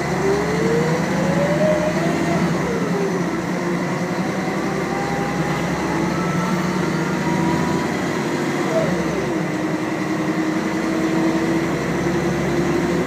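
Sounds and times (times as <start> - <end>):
bus engine accelerating: 0.0 - 13.0.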